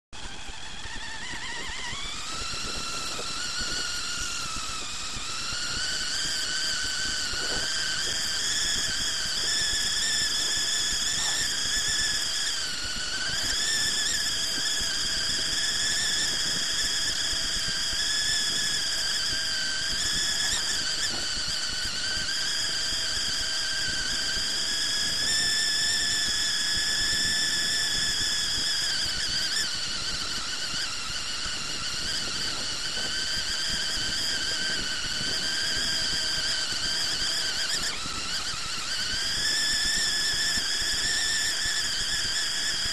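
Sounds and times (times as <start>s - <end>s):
toy car motor whining: 0.2s - 42.9s.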